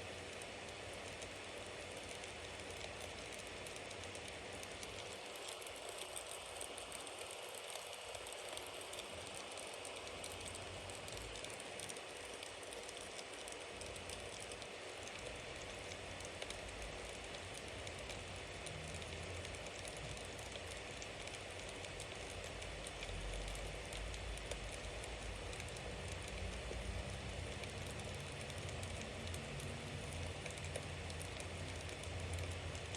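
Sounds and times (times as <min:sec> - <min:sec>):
bonfire crackling and hissing: 0:00.0 - 0:32.9.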